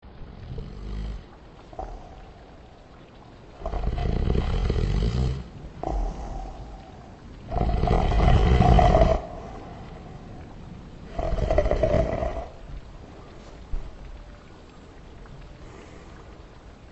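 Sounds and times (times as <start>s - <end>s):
quiet breaths: 0.0s - 16.9s.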